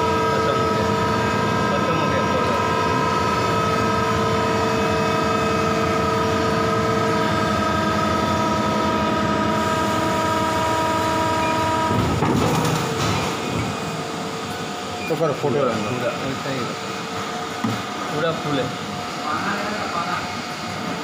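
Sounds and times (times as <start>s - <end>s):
machine whine: 0.0s - 21.0s.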